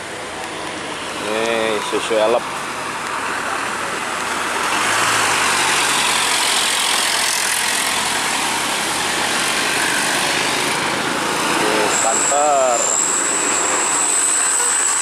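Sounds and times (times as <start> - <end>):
truck engine pulling uphill: 0.0 - 15.0.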